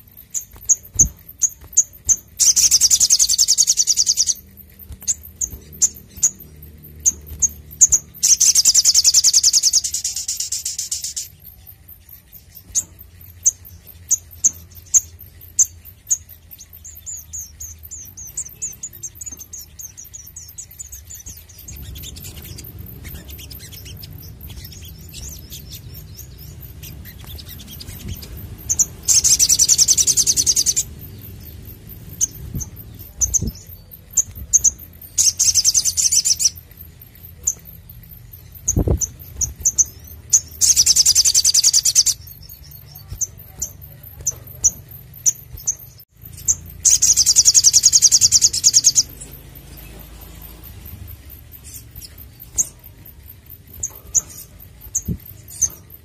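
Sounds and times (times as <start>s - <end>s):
sunbird chirping and trilling: 0.0s - 56.0s.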